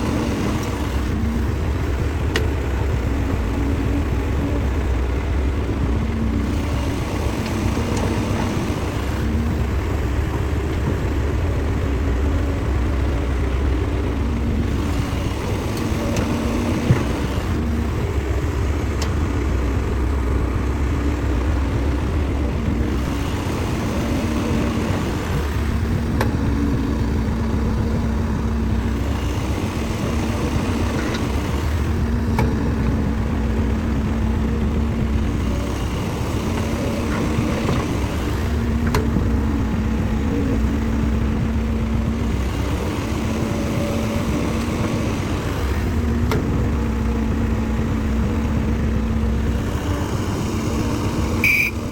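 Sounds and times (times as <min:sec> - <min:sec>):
diesel engine rumbling: 0:00.0 - 0:51.9.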